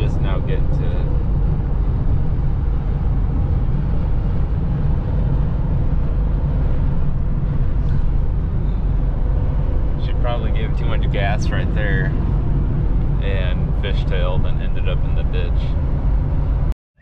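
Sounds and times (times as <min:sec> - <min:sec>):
car cabin road and engine noise: 0:00.0 - 0:16.8.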